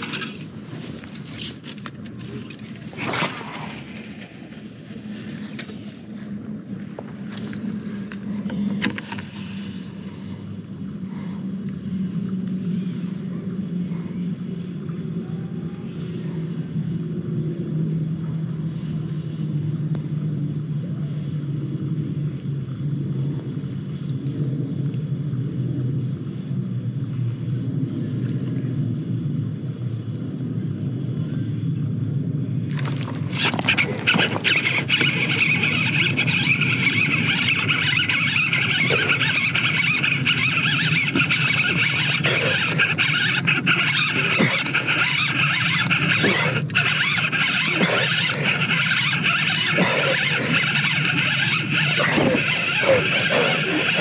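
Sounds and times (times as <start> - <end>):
low engine drone: 0.0 - 54.0.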